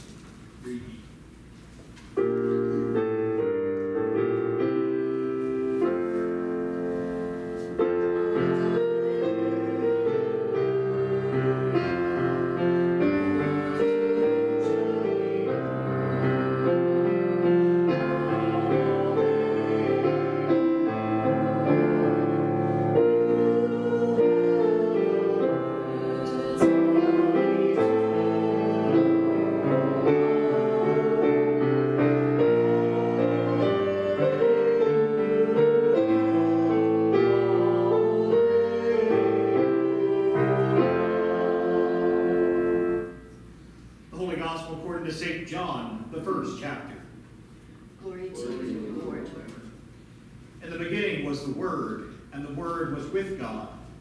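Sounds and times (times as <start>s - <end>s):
piano chords: 2.1s - 47.0s.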